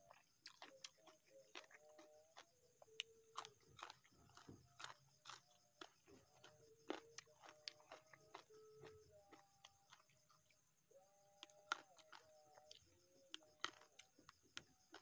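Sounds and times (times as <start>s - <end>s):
chewing with light crunches: 0.0s - 15.0s.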